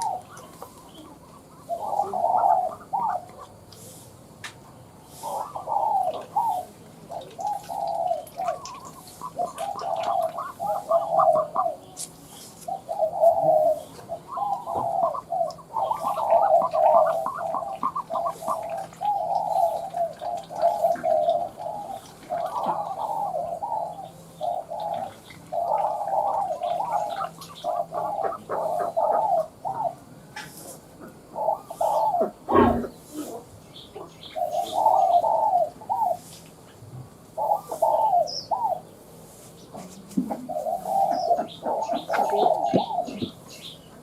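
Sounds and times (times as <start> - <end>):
dove cooing: 0.0 - 4.0, 5.0 - 36.4, 37.0 - 44.0.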